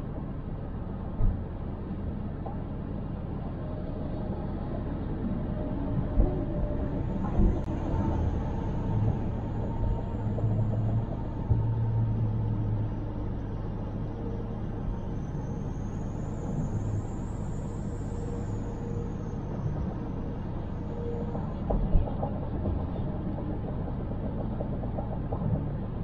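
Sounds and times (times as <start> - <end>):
car driving road noise: 0.0 - 26.0.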